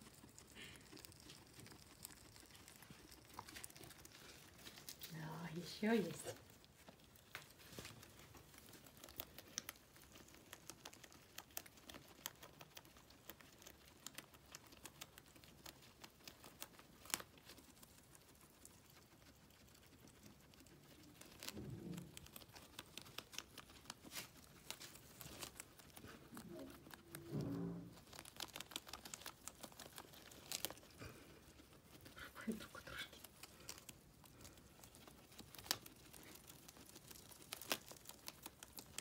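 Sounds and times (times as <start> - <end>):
guinea pigs chewing leaf: 0.0 - 39.0.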